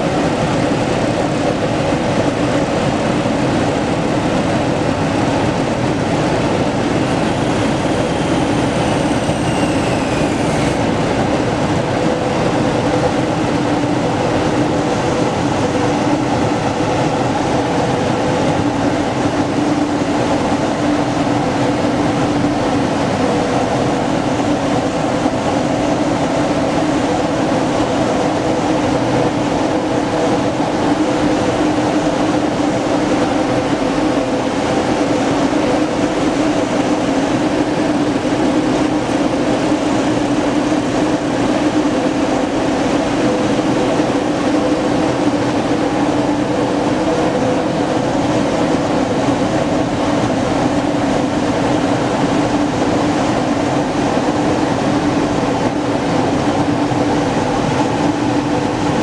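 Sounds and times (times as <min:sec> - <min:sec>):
street sweeper engine drone: 0:00.0 - 0:59.0.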